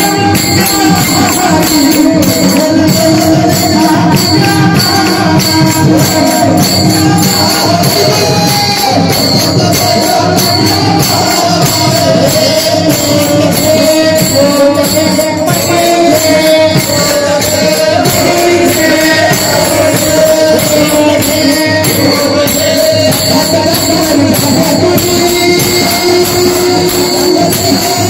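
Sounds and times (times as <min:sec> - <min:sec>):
jingling metal percussion: 0:00.0 - 0:28.0.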